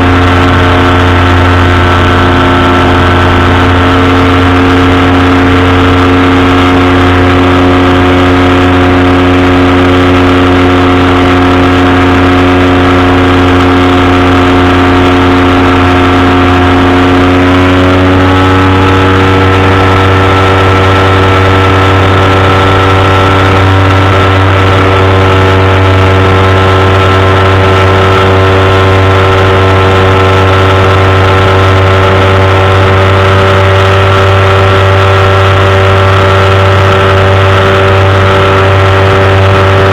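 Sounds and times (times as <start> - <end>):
powered parachute engine and propeller: 0.0 - 39.9.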